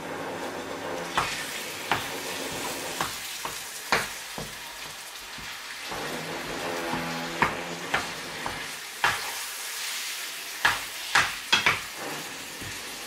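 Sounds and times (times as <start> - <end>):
meat sizzling in a frying pan: 0.4 - 13.0
spatula scraping and knocking pan: 1.2 - 9.6, 10.6 - 13.0.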